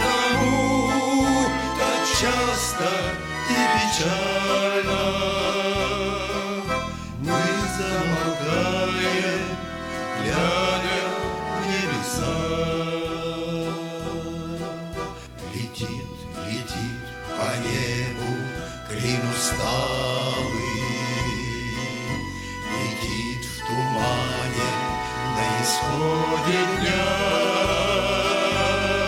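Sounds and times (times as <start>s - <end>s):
instrumental music with bass beat: 0.0s - 4.7s, 5.4s - 29.0s.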